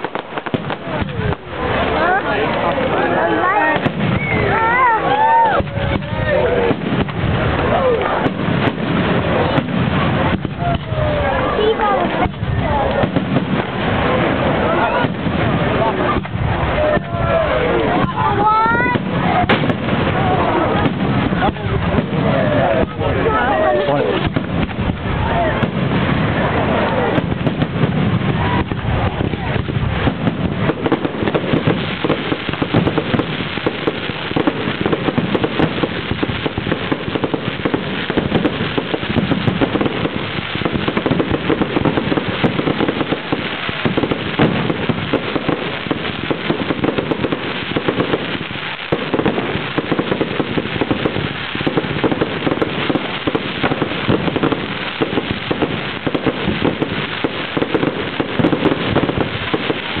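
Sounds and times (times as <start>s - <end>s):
fireworks bangs and crackling: 0.0s - 60.0s.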